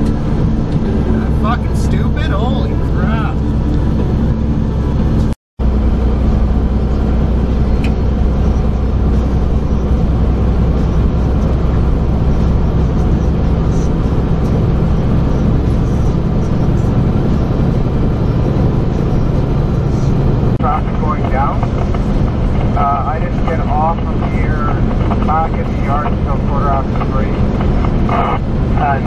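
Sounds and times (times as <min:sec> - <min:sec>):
road noise: 0:00.0 - 0:29.0
truck diesel engine drone: 0:00.0 - 0:29.0.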